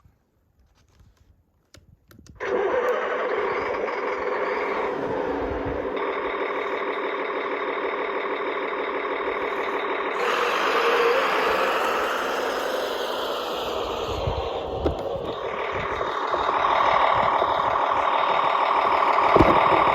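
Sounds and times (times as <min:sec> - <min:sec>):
model vehicle drive whirring: 0:02.4 - 0:19.9.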